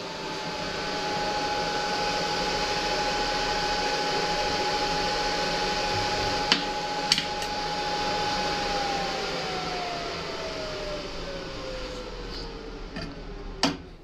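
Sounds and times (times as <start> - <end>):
welder cooling fan whirring: 0.0 - 14.0.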